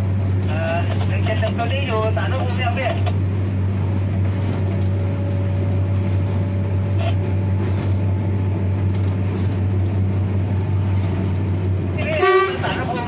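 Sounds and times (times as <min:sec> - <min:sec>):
rail and wheel noise: 0:00.0 - 0:13.0
train engine drone: 0:00.0 - 0:13.0.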